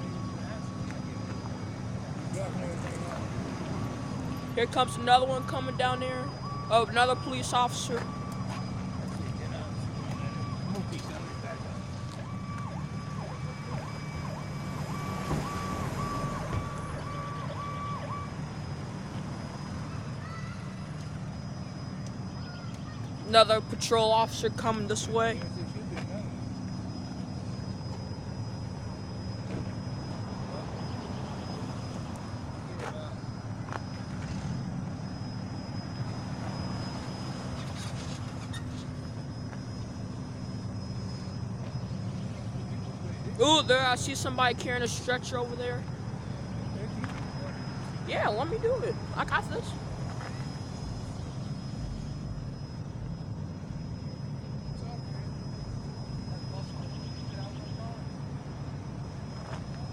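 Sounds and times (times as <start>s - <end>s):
emergency vehicle siren: 0.0s - 59.9s
low engine rumble: 0.0s - 59.9s.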